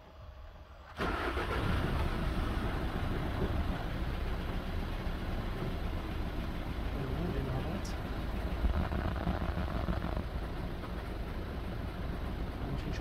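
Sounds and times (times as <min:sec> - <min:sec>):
diesel engine starting and idling: 0:00.0 - 0:13.0.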